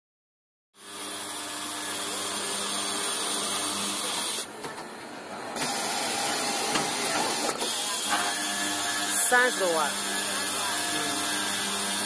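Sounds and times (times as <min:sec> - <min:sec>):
metal-cutting circular saw running: 0:00.8 - 0:04.5, 0:05.6 - 0:12.0.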